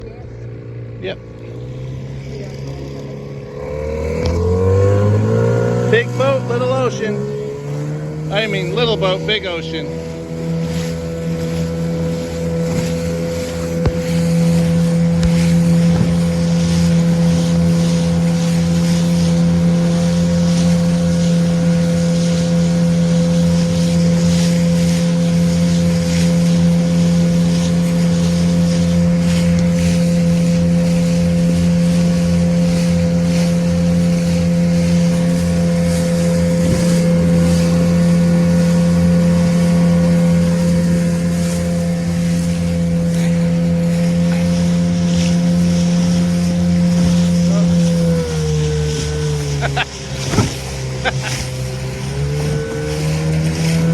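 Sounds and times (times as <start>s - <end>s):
motorboat engine running: 0.0s - 53.9s
wind and water hissing: 0.0s - 53.9s.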